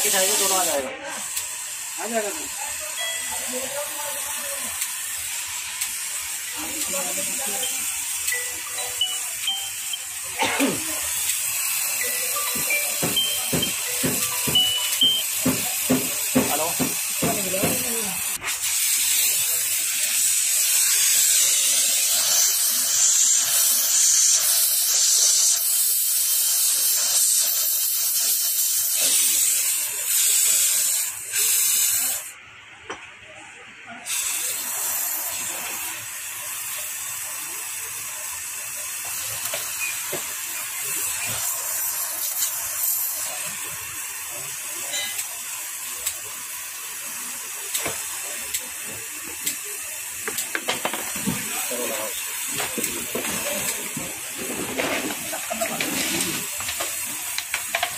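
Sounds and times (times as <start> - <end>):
high-pitched hiss: 0.0 - 32.4, 34.1 - 57.9.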